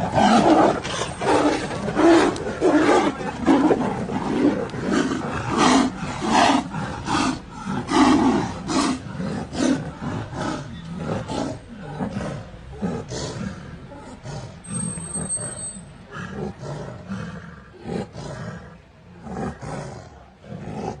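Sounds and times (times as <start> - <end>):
tigers growling and roaring: 0.0 - 21.0.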